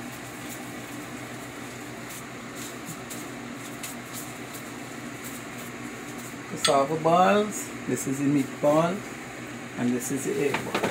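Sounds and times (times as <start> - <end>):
appliance fan hum: 0.0 - 10.9.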